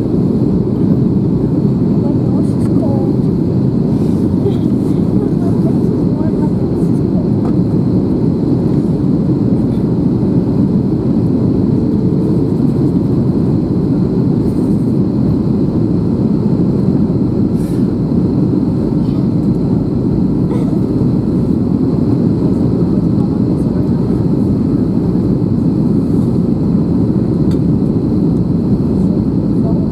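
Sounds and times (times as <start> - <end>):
jet engine roar in flight: 0.0 - 29.9.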